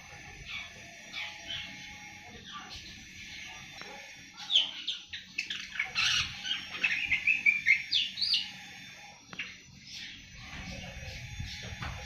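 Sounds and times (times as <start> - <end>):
bird twittering high chirps: 0.0 - 12.0.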